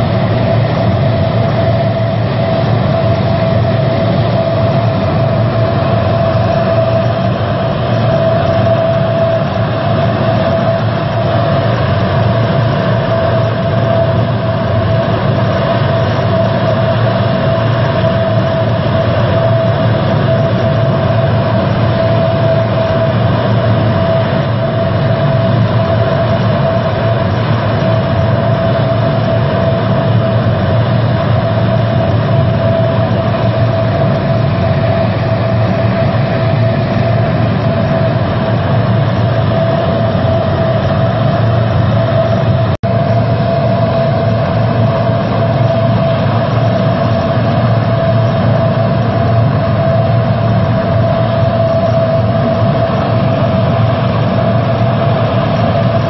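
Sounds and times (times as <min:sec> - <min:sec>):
turboprop aircraft engines running: 0:00.0 - 0:56.0.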